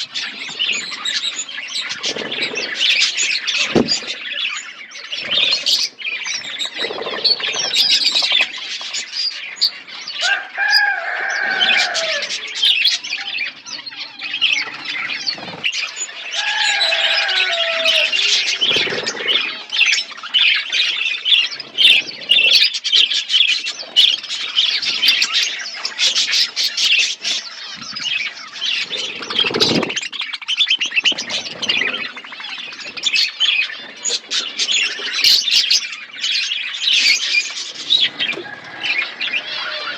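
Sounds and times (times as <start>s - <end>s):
drawn-out bird calls: 0.0s - 39.9s
small birds chirping: 0.0s - 39.9s.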